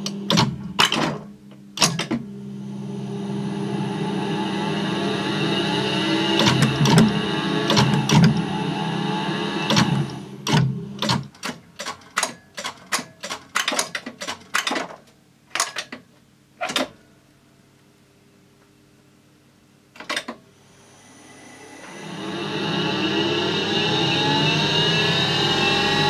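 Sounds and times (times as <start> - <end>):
tape recorder whir and hum: 0.0 - 26.0.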